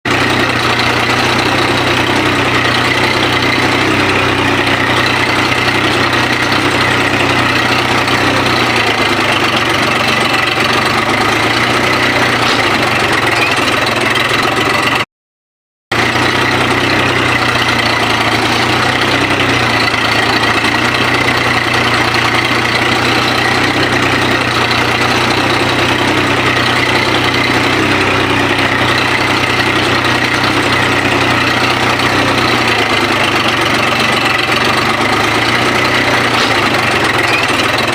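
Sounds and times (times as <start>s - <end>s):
tractor engine running: 0.0s - 15.1s, 15.9s - 37.9s.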